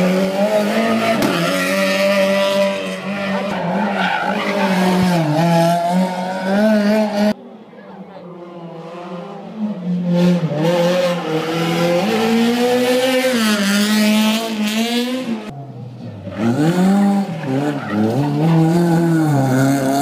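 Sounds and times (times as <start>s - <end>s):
rally car engines revving: 0.0s - 20.0s.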